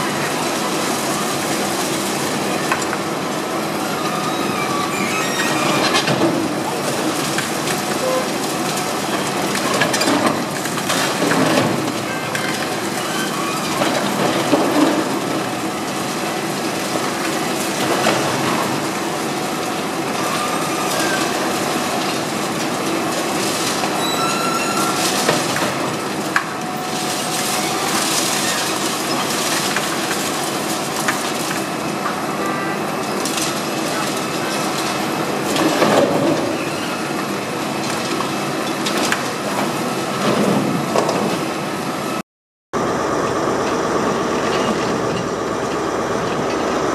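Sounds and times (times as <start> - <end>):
heavy machinery running: 0.0 - 42.2, 42.8 - 46.9.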